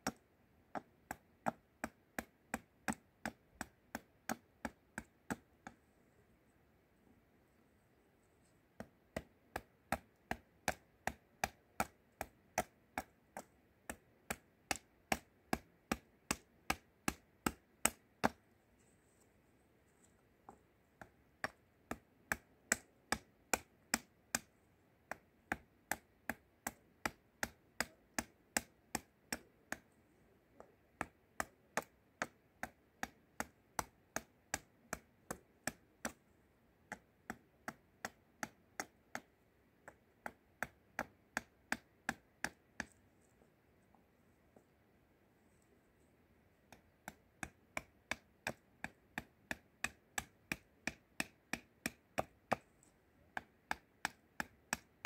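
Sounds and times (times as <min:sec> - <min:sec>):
hatchet chopping wood: 0:00.0 - 0:05.8, 0:08.8 - 0:18.4, 0:20.5 - 0:29.9, 0:30.6 - 0:36.2, 0:36.9 - 0:43.0, 0:46.7 - 0:55.0.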